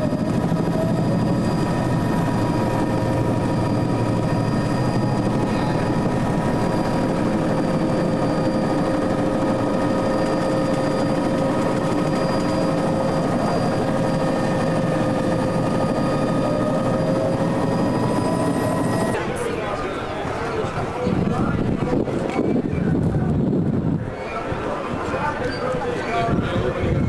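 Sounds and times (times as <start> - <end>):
helicopter droning: 0.0 - 27.0.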